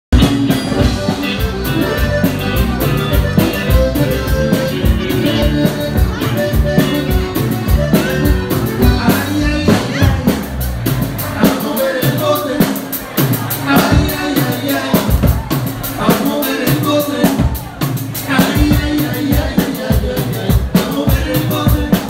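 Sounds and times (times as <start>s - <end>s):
drum kit beat: 0.1s - 22.0s
electric guitars: 0.1s - 22.0s.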